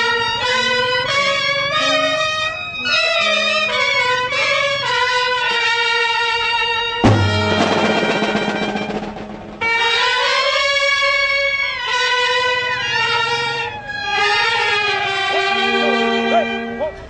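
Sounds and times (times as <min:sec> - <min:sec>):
brass band playing melody: 0:00.0 - 0:17.0.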